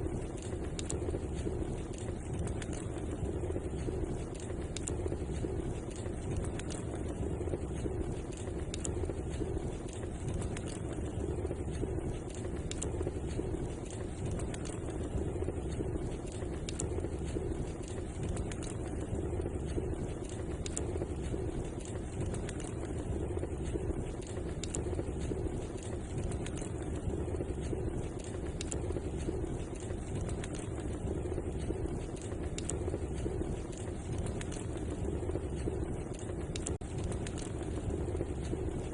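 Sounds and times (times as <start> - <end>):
fire crackles and pops: 0.0 - 38.9
wood fire burning: 0.0 - 38.9.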